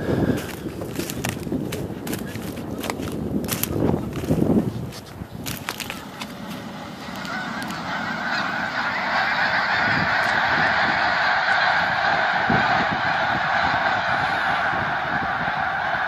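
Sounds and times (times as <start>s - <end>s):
flock of geese calling: 0.0s - 16.0s.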